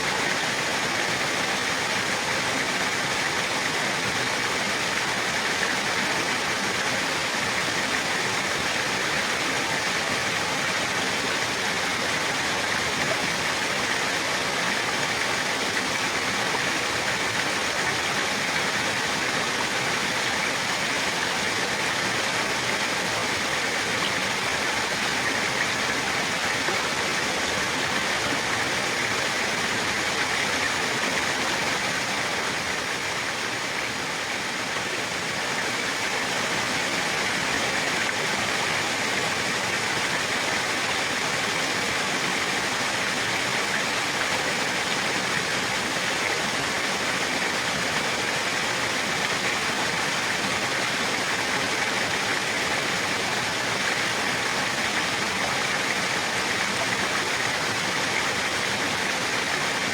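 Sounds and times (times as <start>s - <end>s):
running water flowing: 0.0s - 59.9s.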